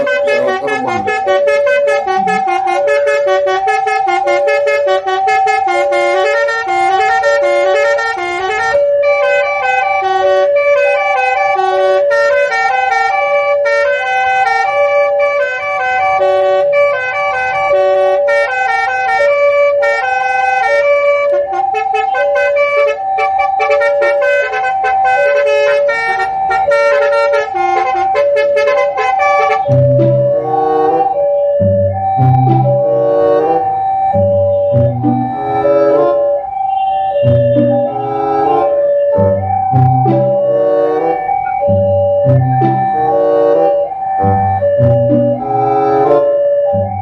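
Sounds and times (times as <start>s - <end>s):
level crossing two-tone alarm: 0.0s - 47.0s.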